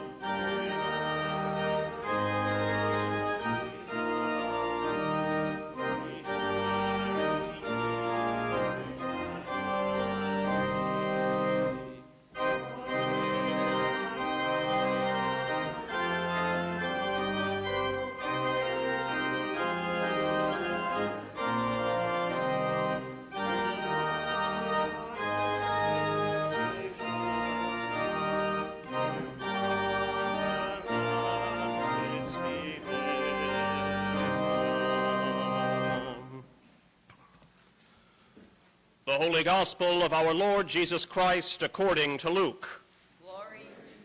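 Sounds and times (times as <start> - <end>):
church organ chords: 0.0 - 36.6, 39.0 - 42.8.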